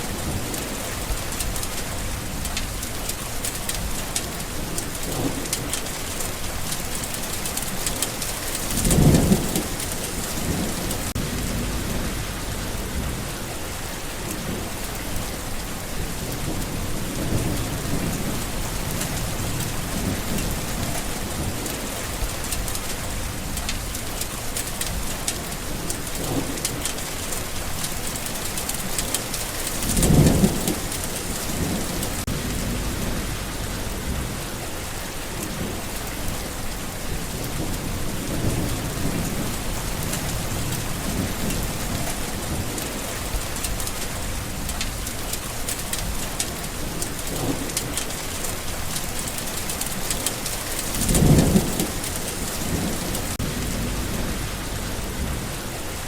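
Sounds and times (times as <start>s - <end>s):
heavy rain falling: 0.0s - 56.0s
thunder rumbling: 0.0s - 56.0s.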